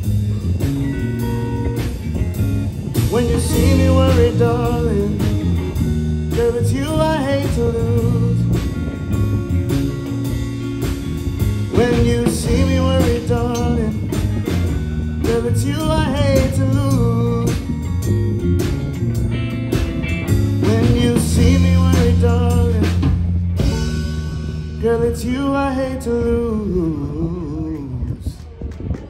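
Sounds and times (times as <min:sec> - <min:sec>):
electric guitar lead: 0:00.0 - 0:27.4
blues band playing: 0:00.0 - 0:28.6.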